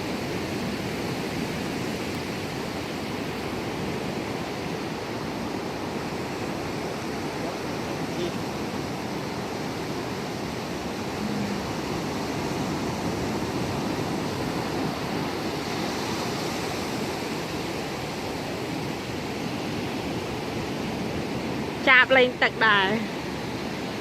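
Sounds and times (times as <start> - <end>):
ocean waves washing: 0.0 - 24.0.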